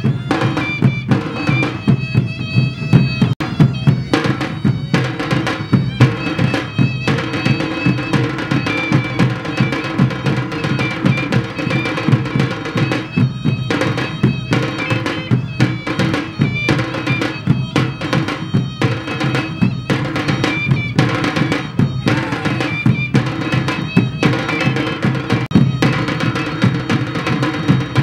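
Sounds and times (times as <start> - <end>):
droning wind instrument: 0.0 - 28.0
high piping notes: 0.0 - 28.0.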